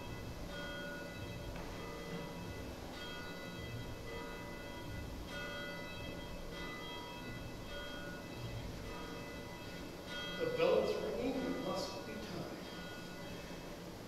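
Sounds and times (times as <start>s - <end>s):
bells struck ringing: 0.0s - 14.0s.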